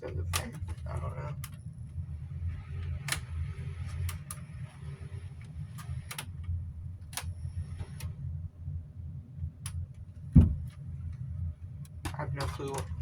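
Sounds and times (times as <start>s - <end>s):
fan motor humming: 0.0s - 13.0s.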